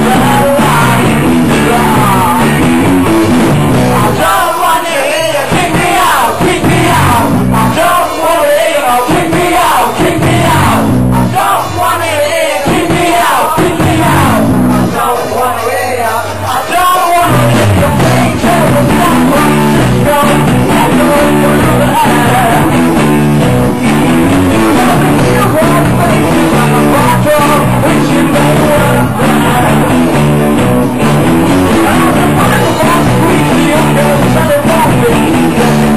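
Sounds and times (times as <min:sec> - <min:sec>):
live rock band playing: 0:00.0 - 0:04.5, 0:05.4 - 0:08.4, 0:09.1 - 0:11.7, 0:12.7 - 0:15.3, 0:17.2 - 0:35.9
lead vocalist singing: 0:00.0 - 0:30.4, 0:31.6 - 0:35.9.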